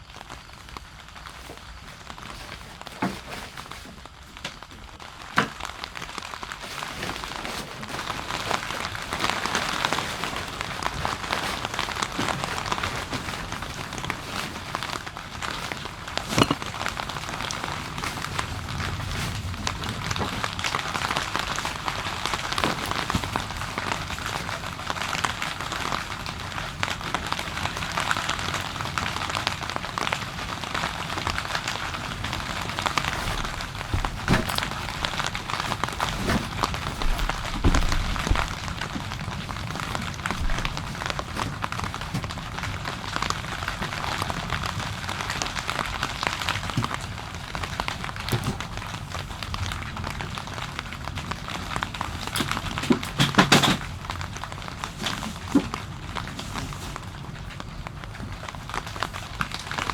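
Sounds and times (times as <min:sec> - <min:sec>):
rain falling on a surface: 0:00.0 - 0:59.9.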